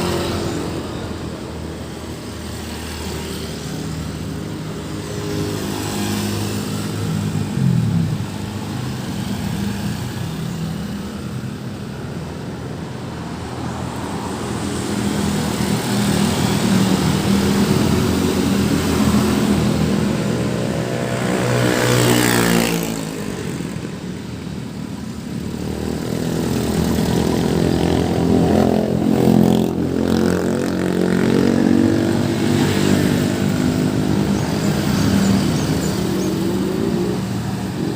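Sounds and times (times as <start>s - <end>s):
road traffic: 0.0s - 37.9s.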